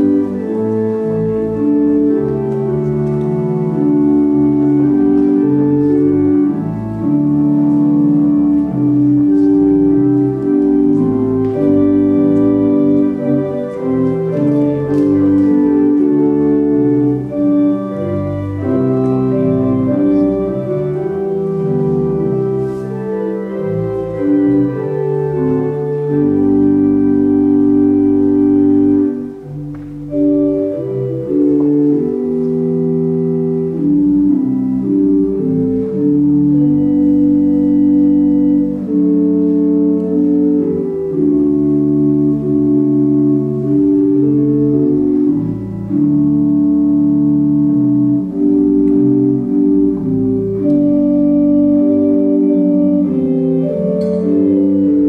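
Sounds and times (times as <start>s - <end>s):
church organ playing chords: 0.0s - 55.0s.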